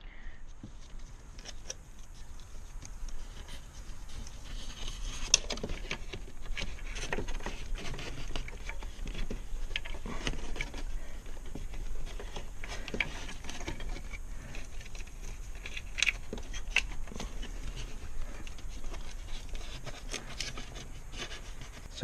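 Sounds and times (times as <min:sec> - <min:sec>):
car parts clicking and rustling: 0:00.4 - 0:22.0.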